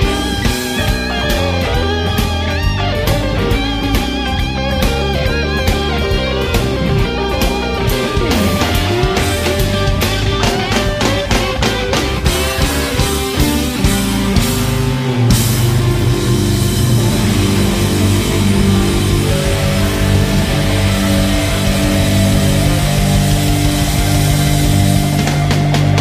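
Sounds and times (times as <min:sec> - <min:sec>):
distorted electric guitar: 0:00.0 - 0:26.0
drums: 0:00.0 - 0:26.0
heavy rock music: 0:00.0 - 0:26.0.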